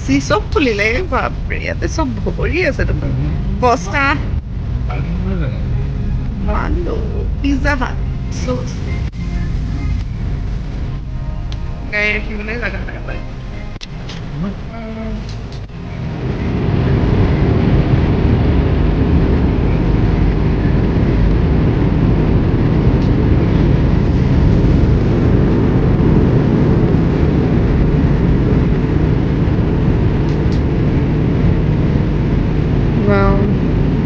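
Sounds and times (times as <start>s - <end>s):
wind rush: 0.0s - 11.2s, 11.8s - 34.0s
road and tyre noise: 0.0s - 34.0s.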